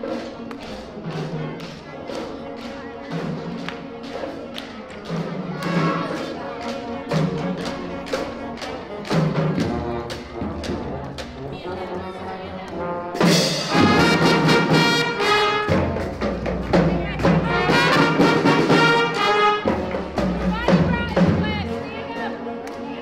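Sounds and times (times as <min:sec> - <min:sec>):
steady drum beat: 0:00.0 - 0:11.6, 0:12.8 - 0:22.4
marching band brass: 0:00.0 - 0:23.0.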